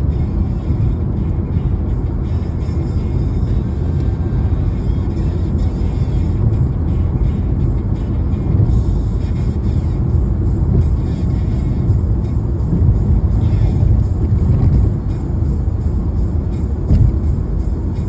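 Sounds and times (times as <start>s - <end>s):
car driving rumble: 0.0s - 18.0s
music playing: 0.0s - 18.0s.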